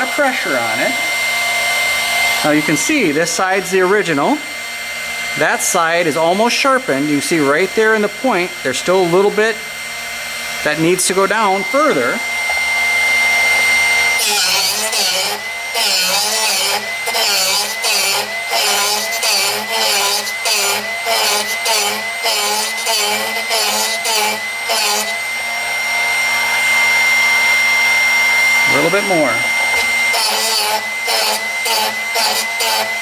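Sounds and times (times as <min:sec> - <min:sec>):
drill bit sharpener whining: 0:00.0 - 0:33.0
grinding of drill bit: 0:00.0 - 0:33.0.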